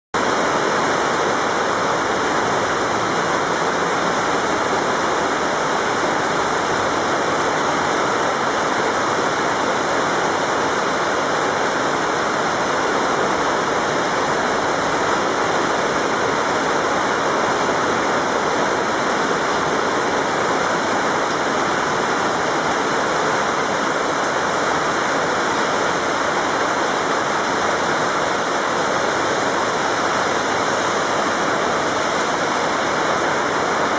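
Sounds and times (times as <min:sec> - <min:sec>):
heavy rain on road and grass: 0:00.2 - 0:33.9.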